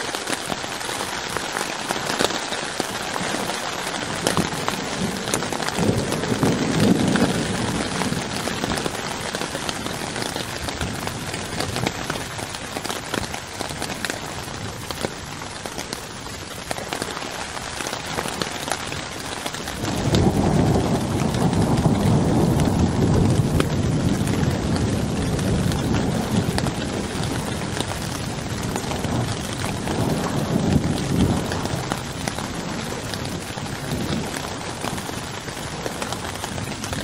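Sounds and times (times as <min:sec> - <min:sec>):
rain on tarp roof: 0:00.0 - 0:37.0
thunder rumbling: 0:00.5 - 0:37.0.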